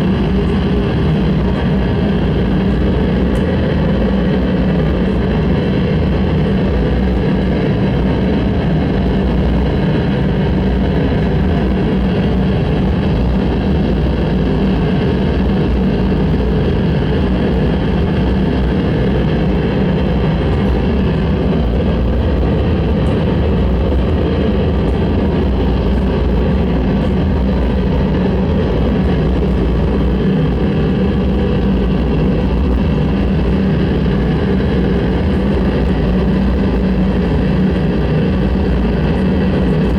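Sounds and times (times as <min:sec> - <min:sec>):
low drone: 0:00.0 - 0:39.9.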